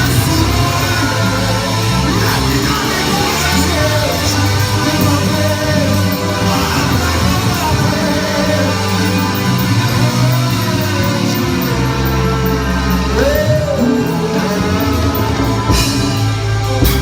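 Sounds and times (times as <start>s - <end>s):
gospel band with singing: 0.0s - 17.0s
heavy bass: 0.0s - 17.0s.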